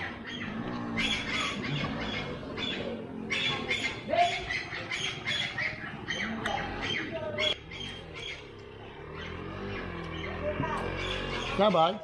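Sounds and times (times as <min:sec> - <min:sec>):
bird calling: 0:00.0 - 0:11.8.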